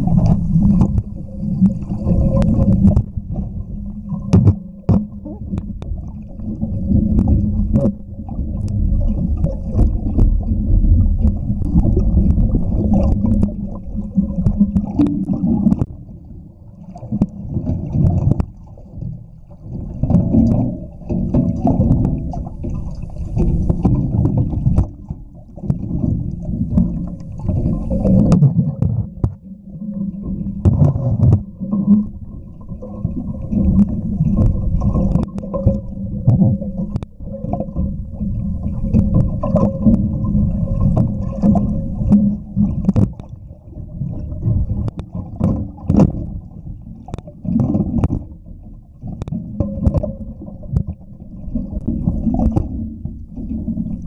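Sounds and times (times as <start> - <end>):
muffled underwater water sloshing: 0.0 - 54.0.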